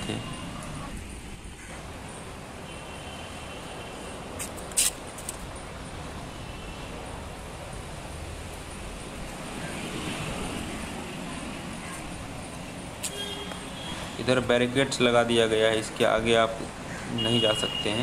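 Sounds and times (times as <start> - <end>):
city road traffic hum: 0.0 - 18.0.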